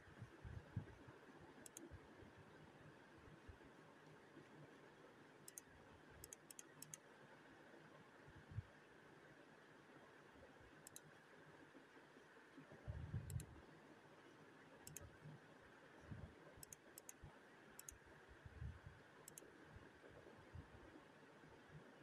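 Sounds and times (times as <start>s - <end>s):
faint room hiss: 0.0s - 22.0s.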